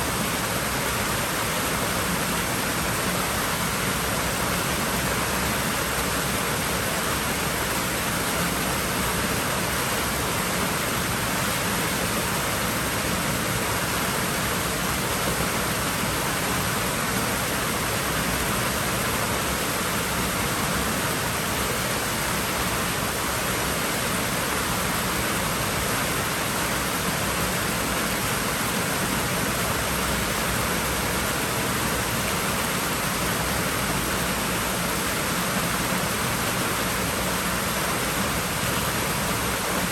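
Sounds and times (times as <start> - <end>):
water rushing in a pool: 0.0 - 39.9.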